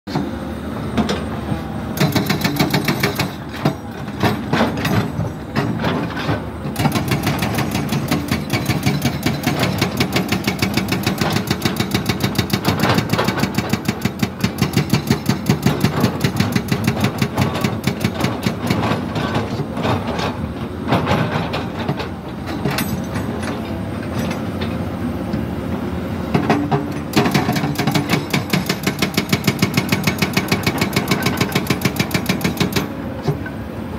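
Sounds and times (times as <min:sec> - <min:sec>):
excavator diesel engine running: 0:00.1 - 0:33.9
hydraulic rock breaker hammering: 0:02.0 - 0:24.5, 0:26.3 - 0:33.4.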